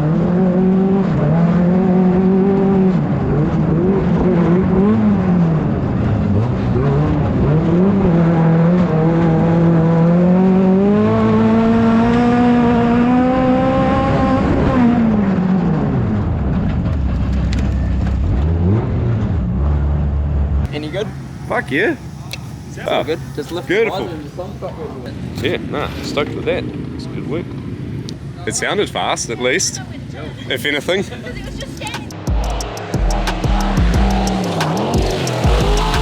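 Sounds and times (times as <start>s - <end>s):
race car engine revving: 0.0s - 27.9s, 30.6s - 36.0s.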